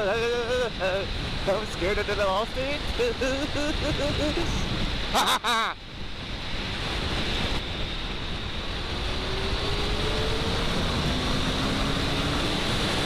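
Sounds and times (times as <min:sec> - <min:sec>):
wind buffeting microphone: 0:00.0 - 0:05.2, 0:05.8 - 0:13.0.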